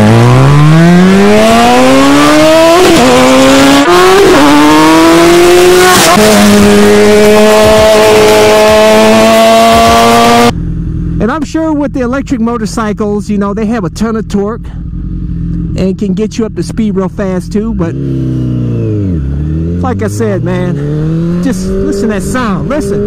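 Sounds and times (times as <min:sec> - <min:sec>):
motorcycle engine accelerating: 0:00.0 - 0:12.9, 0:13.5 - 0:23.0.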